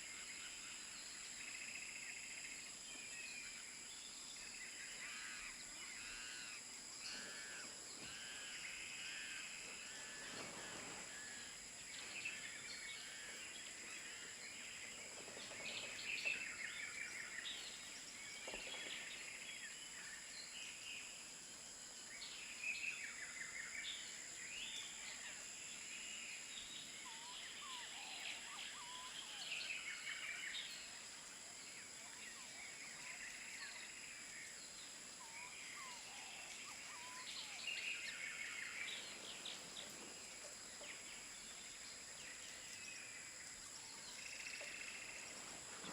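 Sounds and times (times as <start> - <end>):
high-pitched insect hum: 0.0 - 45.9.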